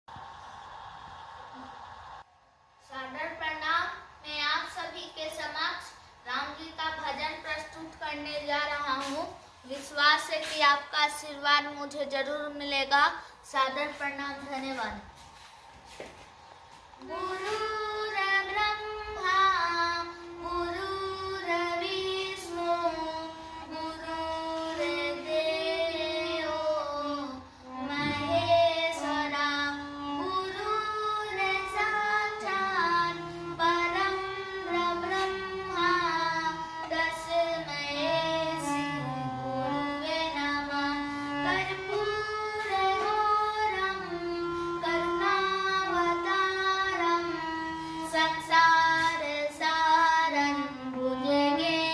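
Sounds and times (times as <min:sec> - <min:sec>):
high voice singing devotional song: 0:00.1 - 0:51.9.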